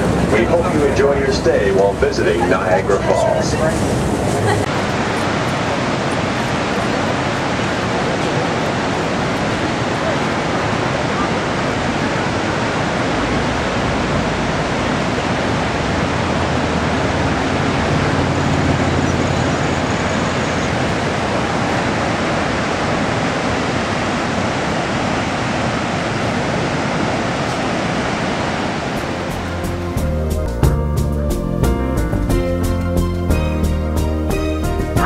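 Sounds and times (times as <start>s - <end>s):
waterfall rushing: 0.0s - 30.4s.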